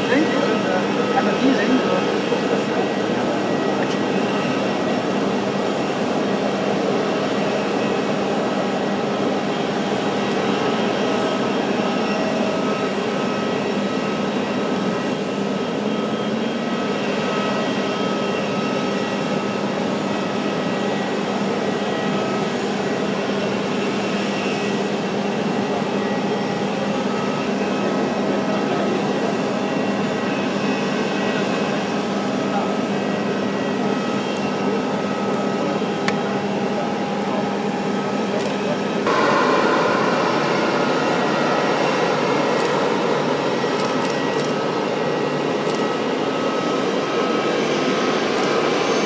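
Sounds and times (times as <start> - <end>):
jet engines rushing: 0.0 - 49.0.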